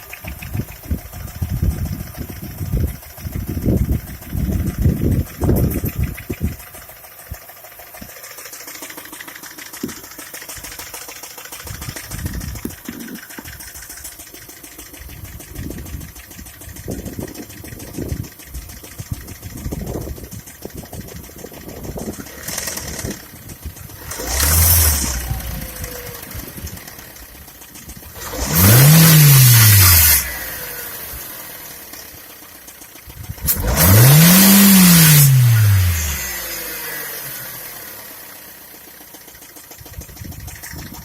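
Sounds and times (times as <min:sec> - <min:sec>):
car engine running: 0:00.0 - 0:41.0
repetitive engine knock: 0:00.0 - 0:41.0.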